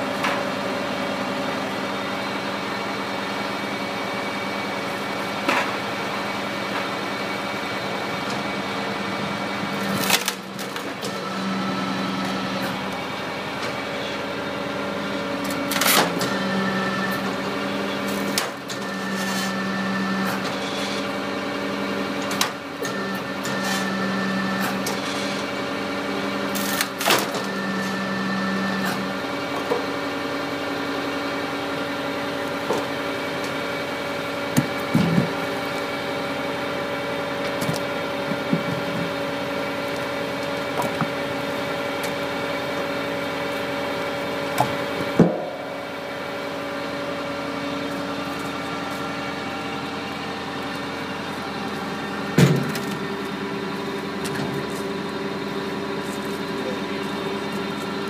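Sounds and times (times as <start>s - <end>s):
engine and hydraulic hum: 0.0s - 58.0s.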